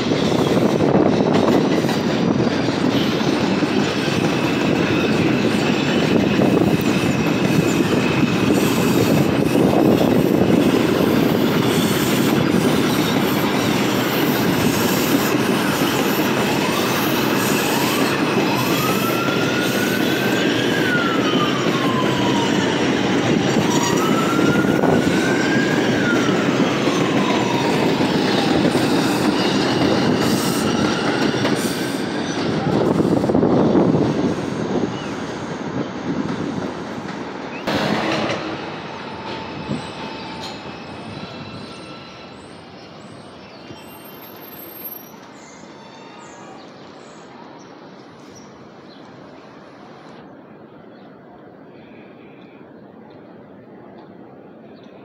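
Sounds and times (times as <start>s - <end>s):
subway train wheel-on-rail noise: 0.0s - 55.0s.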